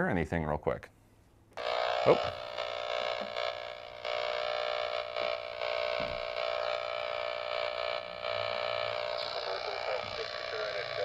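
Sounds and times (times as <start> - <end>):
distorted buzzing radio transmission: 1.6 - 11.0.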